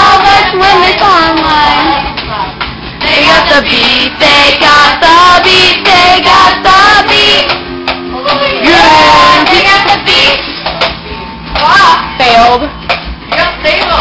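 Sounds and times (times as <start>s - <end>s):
girls singing: 0.0s - 10.6s, 13.3s - 14.0s.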